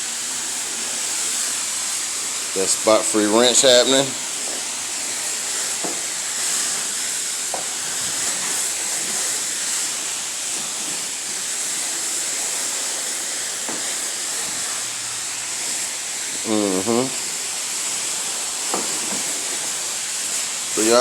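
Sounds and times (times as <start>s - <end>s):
spray wand hissing water: 0.0s - 21.0s.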